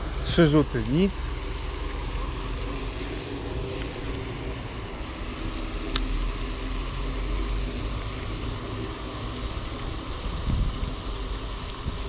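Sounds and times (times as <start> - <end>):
distant road traffic: 0.0 - 12.0
wind: 0.0 - 12.0.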